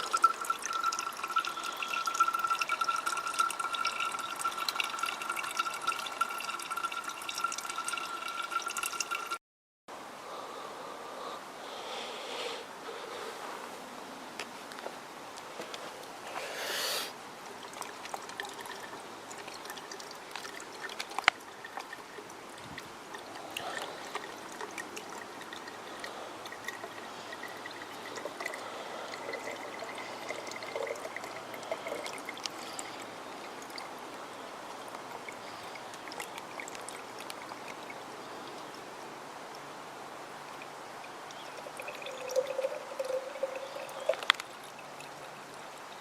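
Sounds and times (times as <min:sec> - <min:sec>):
small stream running: 0:00.0 - 0:09.4, 0:12.6 - 0:46.0
water rush: 0:00.0 - 0:09.4, 0:17.2 - 0:46.0
water trickling into bottle: 0:00.0 - 0:09.4, 0:17.4 - 0:38.9, 0:39.5 - 0:46.0.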